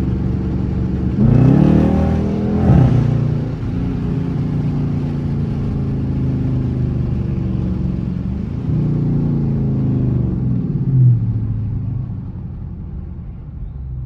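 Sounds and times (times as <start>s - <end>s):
car engine and exhaust droning: 0.0s - 14.0s.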